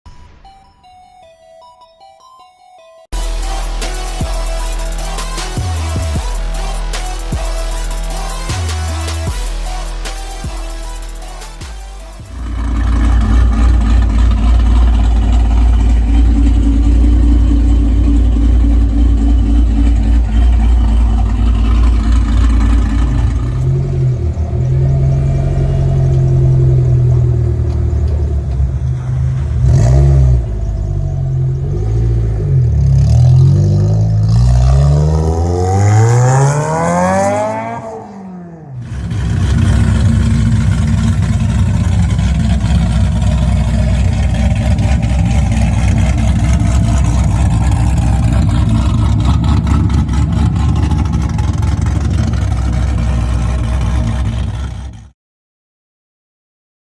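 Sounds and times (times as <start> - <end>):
loud car engine revving: 3.2 - 55.1.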